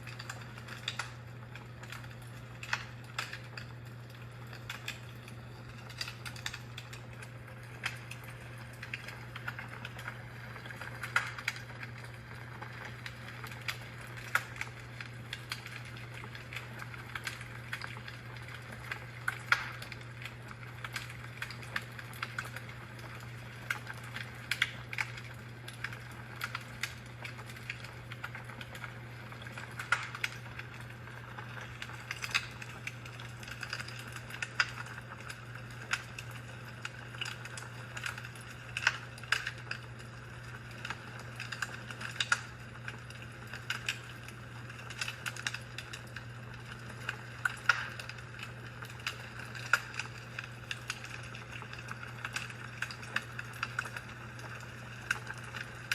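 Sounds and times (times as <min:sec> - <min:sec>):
fire crackling: 0:00.0 - 0:55.9
steady low hum: 0:00.0 - 0:55.9.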